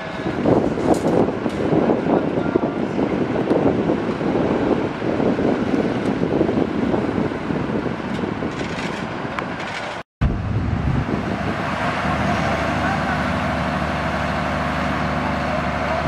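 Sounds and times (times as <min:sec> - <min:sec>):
construction site noise: 0:00.0 - 0:16.0.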